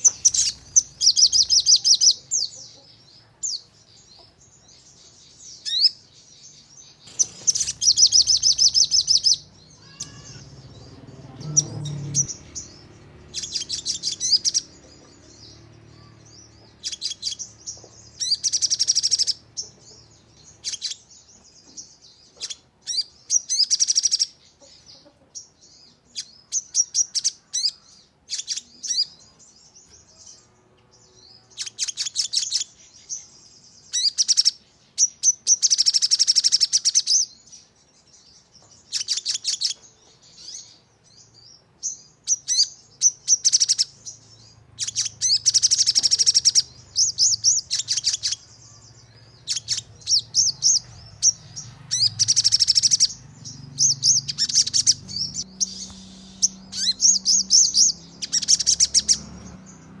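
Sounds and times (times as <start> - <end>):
bird song in fast trills: 0.0 - 60.0.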